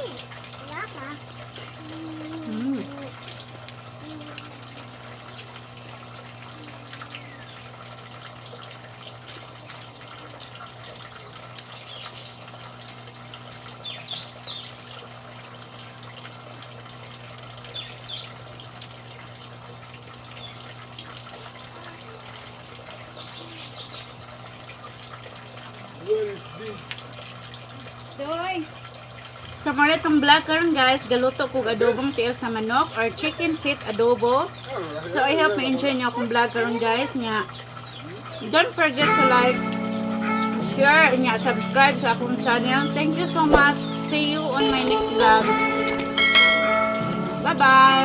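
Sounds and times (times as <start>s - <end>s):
constant low hum: 0.0s - 48.0s.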